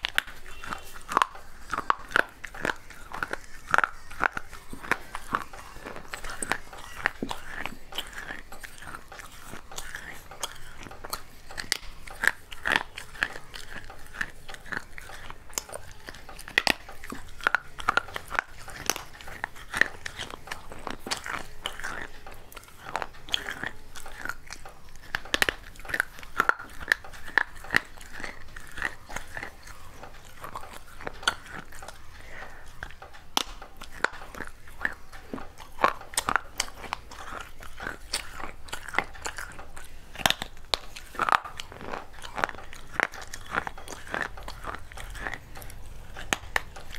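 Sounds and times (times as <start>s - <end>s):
clay pot crunching when chewed: 0.0s - 46.9s.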